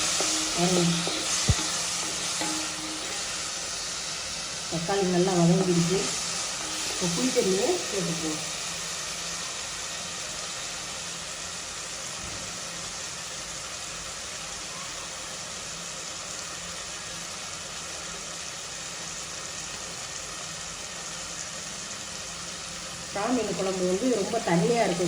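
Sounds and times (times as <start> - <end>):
curry sizzling in a pan: 0.0 - 25.0.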